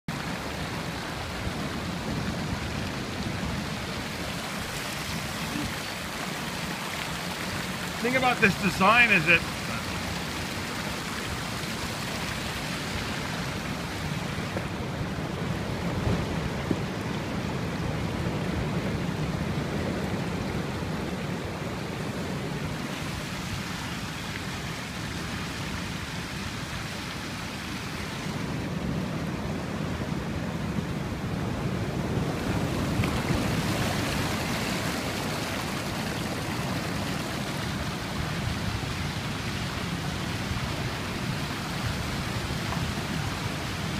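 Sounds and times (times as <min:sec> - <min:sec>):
ocean surf rushing: 0:00.1 - 0:43.9.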